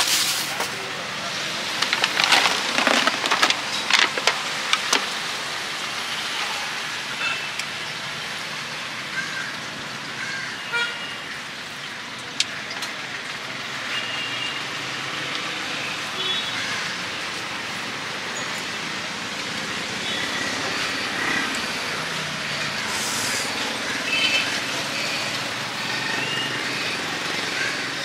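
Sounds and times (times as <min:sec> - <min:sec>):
street traffic noise: 0:00.0 - 0:28.0.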